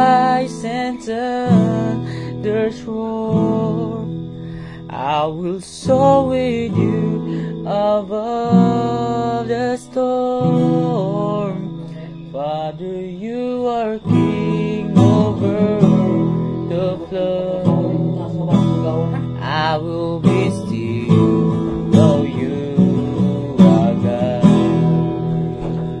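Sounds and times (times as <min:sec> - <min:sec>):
acoustic guitar strummed chords: 0:00.0 - 0:26.0
person singing: 0:00.0 - 0:26.0.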